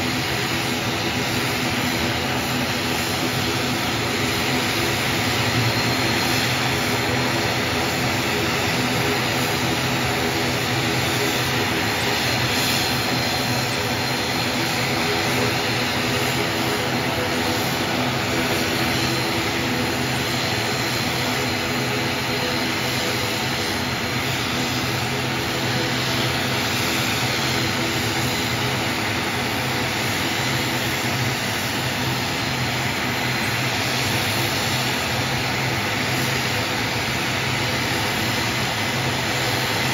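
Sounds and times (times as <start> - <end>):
turboprop airliner taxiing: 0.0 - 39.9.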